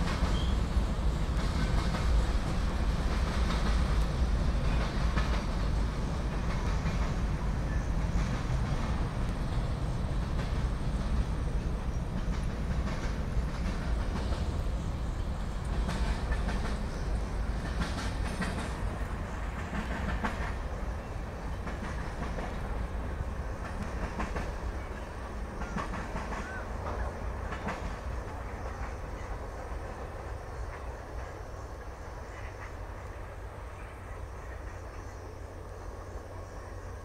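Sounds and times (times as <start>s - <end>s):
wheels clacking over rail joints: 0.0s - 31.5s
freight train rumble: 0.0s - 37.0s.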